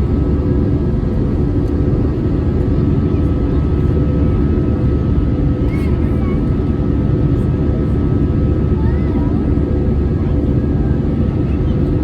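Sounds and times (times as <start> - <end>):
airplane cabin engine roar: 0.0 - 12.0
constant hums: 0.0 - 12.0.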